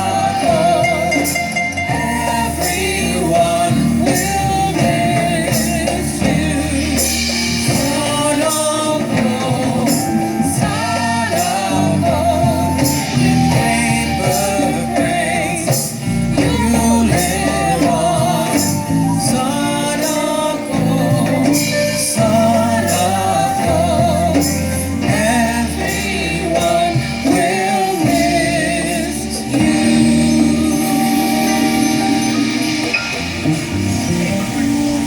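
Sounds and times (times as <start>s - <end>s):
gospel song with singing voices: 0.0s - 35.0s
steady bass line: 0.0s - 35.0s.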